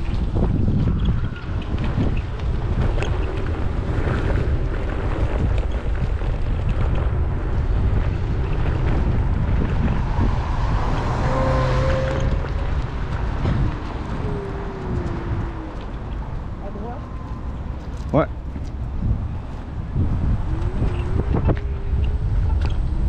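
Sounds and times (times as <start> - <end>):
scooter wheels rolling on concrete: 0.0 - 23.0
wind buffeting microphone: 0.0 - 23.0.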